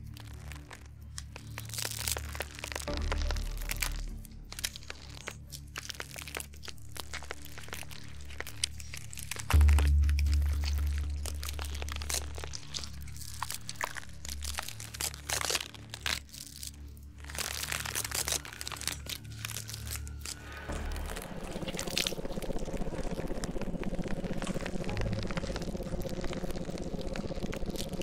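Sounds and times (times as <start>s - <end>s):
deep steady drone: 0.0s - 28.0s
dense crackling hiss: 0.0s - 28.0s
wet crackling and crunching: 0.0s - 28.0s.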